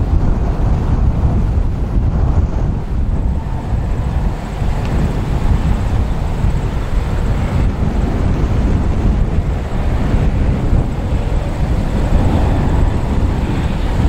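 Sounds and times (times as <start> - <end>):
diesel locomotives running: 0.0 - 14.0
wind buffeting microphone: 0.0 - 14.0.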